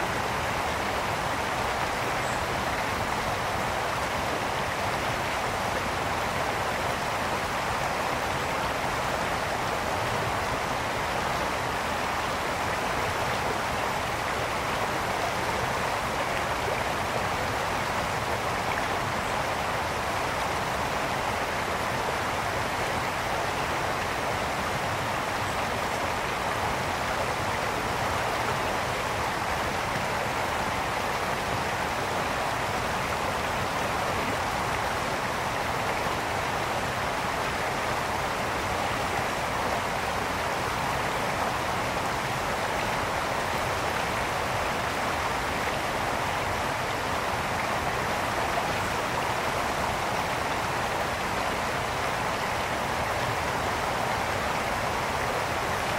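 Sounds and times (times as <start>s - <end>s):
brook babbling over stones: 0.0s - 55.9s.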